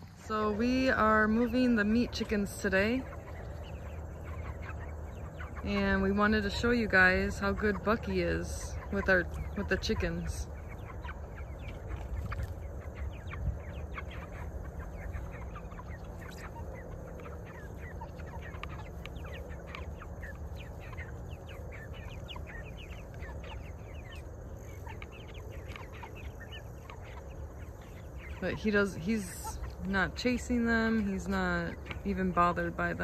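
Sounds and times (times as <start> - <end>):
chickens peeping and clucking: 0.0 - 33.0.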